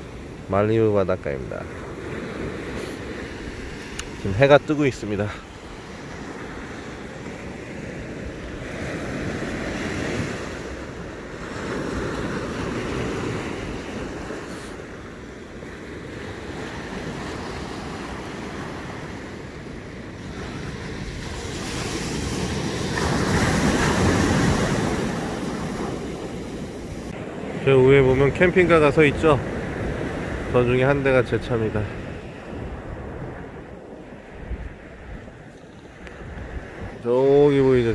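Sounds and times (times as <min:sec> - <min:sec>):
ocean surf breaking on a beach: 0:00.0 - 0:37.9.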